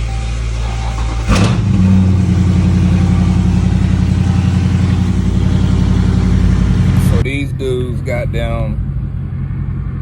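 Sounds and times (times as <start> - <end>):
car engine idling loud: 0.5 - 10.0.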